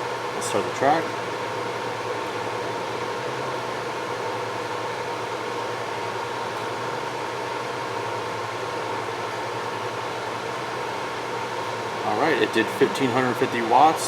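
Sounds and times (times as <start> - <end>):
cooling fans whirring: 0.0 - 14.0
faint steady hum: 0.0 - 14.0.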